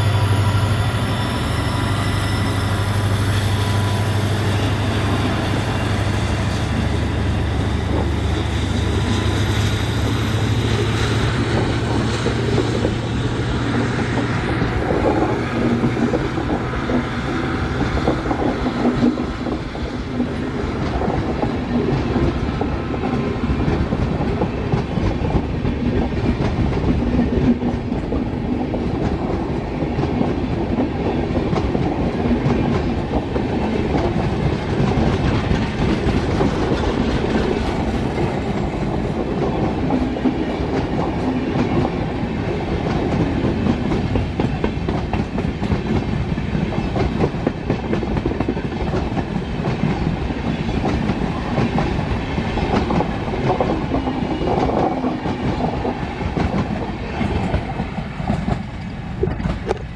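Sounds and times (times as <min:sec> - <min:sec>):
train coaches rumbling: 0:00.0 - 0:59.9.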